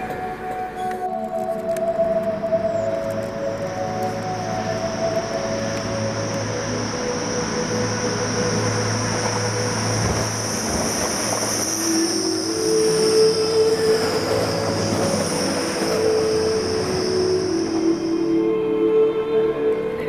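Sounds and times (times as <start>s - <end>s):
low engine tones: 0.0s - 20.0s
train wheels squealing: 2.0s - 20.0s.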